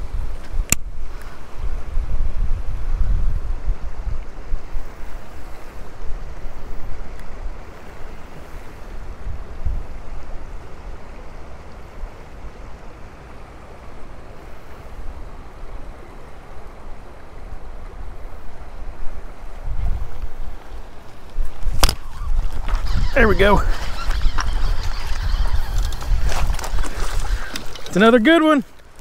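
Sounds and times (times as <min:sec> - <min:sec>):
creek water running: 0:00.0 - 0:29.0
wind rumbling on microphone: 0:00.0 - 0:29.0.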